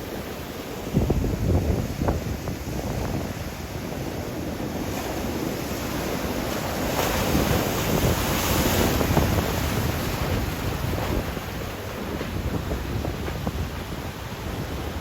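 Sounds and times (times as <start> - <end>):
ocean surf breaking on beach: 0.0 - 15.0
wind buffeting microphone: 0.0 - 15.0.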